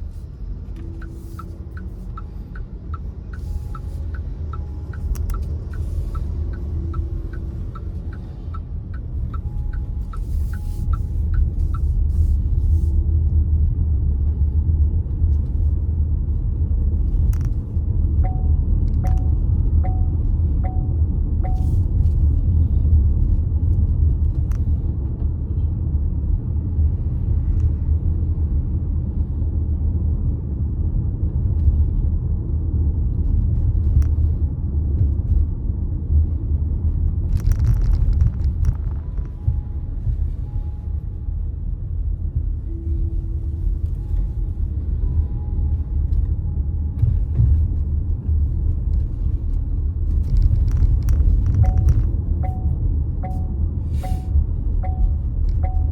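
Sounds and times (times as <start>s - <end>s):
car engine and tyre noise: 0.0s - 55.9s.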